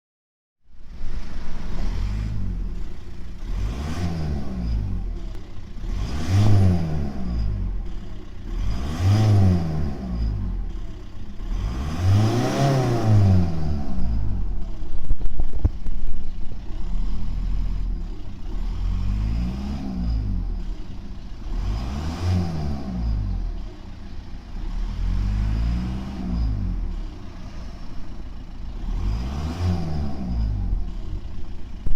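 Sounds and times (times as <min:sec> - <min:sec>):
diesel engine revving: 0:00.8 - 0:31.9.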